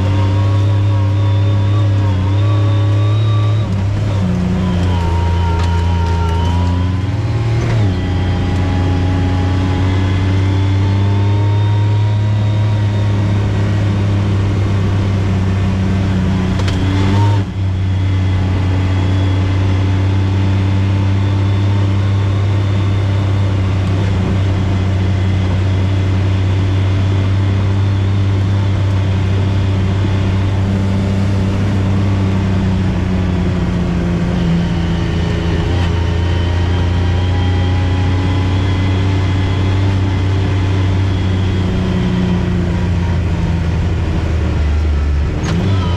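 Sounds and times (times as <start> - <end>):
vehicle engine droning: 0.0 - 45.9.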